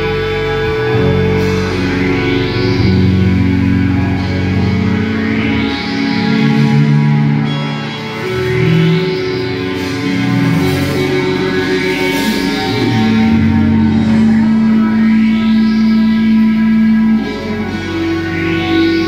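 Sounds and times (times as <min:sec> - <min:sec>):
drums: 0:00.0 - 0:19.0
electric guitars sustained notes: 0:00.0 - 0:19.0.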